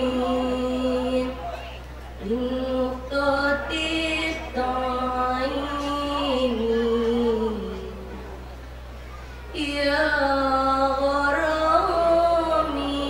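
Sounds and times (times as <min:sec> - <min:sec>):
woman singing into microphone: 0:00.0 - 0:08.3, 0:09.5 - 0:13.0.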